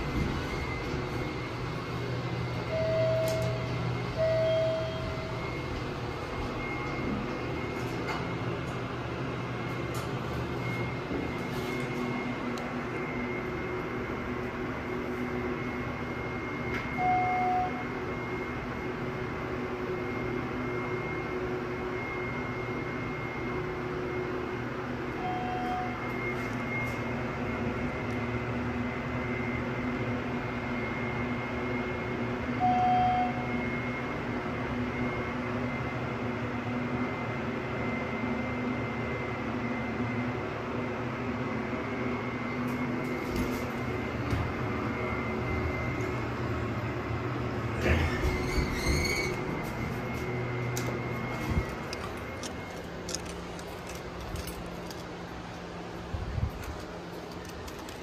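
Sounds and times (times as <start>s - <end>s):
elevator chime beeps: 0.0s - 40.5s, 41.8s - 55.0s
elevator hum and whine: 0.0s - 58.0s.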